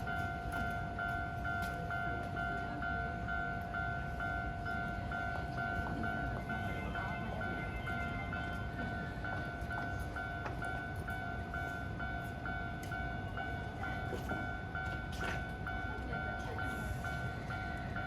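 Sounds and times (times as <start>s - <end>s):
level crossing bell ringing: 0.1s - 18.0s.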